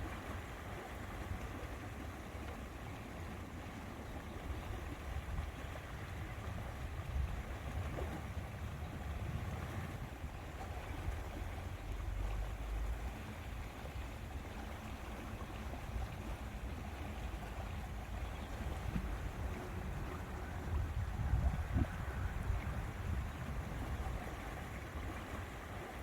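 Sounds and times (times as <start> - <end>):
lake water washing: 0.0 - 26.0
wind rumbling on microphone: 4.5 - 15.0, 15.7 - 26.0.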